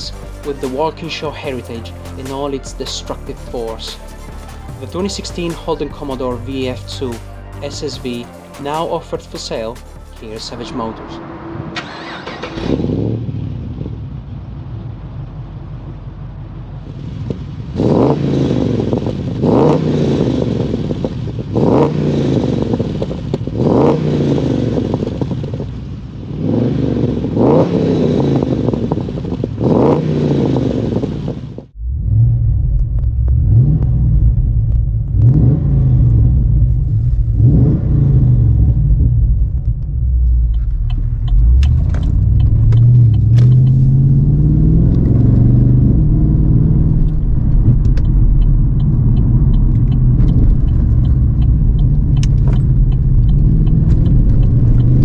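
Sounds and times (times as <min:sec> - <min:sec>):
car engine revving: 0:00.0 - 0:55.0
engine drone inside car: 0:00.0 - 0:55.0.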